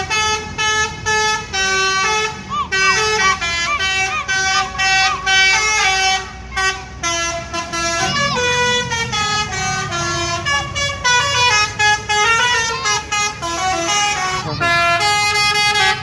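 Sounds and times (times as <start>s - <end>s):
bus engine running: 0.0s - 16.0s
bus horn playing fast melody: 0.0s - 16.0s.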